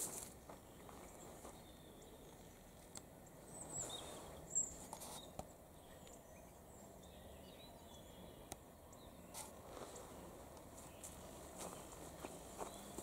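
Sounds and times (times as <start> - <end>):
songbird chirps: 0.0 - 13.0.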